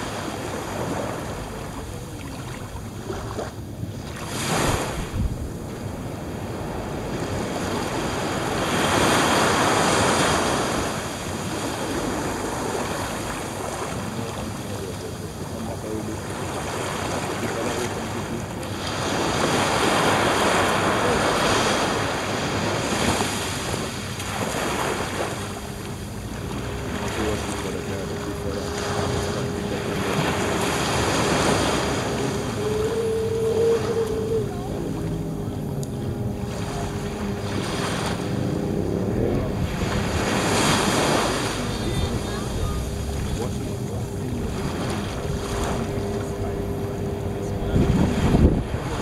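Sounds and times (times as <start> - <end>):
faint steady hum: 0.0 - 49.0
small waves washing on beach: 0.0 - 49.0
wind on microphone: 0.0 - 49.0.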